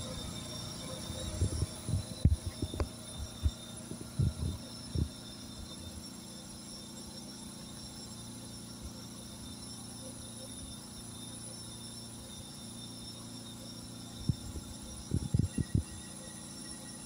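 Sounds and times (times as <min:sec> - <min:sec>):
high-pitched machine whines: 0:00.0 - 0:17.0
steady electrical hum: 0:00.0 - 0:17.0.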